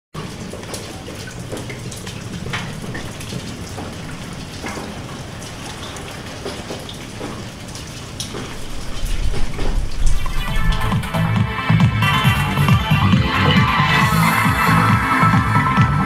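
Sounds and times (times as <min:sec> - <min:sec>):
steady rain: 0:00.2 - 0:16.0.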